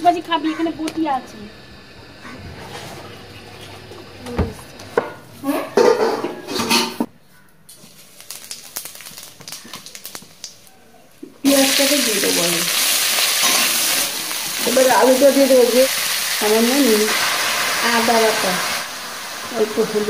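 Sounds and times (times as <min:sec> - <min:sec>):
onions frying sizzle: 0:00.0 - 0:05.2, 0:07.7 - 0:10.7, 0:11.4 - 0:20.0.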